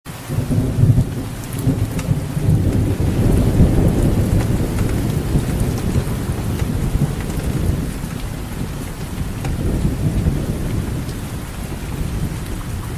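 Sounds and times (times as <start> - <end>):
heavy rain falling: 0.1 - 12.9.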